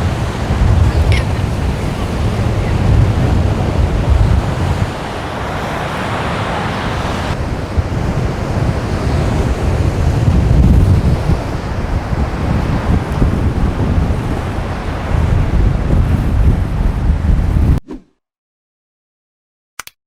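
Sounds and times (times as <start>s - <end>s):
surf breaking: 0.0s - 17.4s
wind buffeting microphone: 0.0s - 17.8s.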